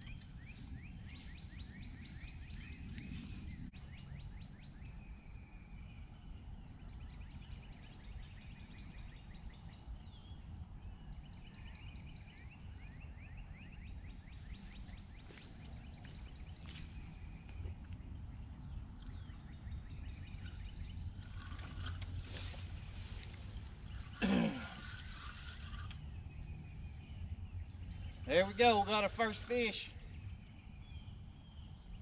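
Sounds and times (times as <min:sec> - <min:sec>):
songbirds trilling: 0:00.0 - 0:32.0.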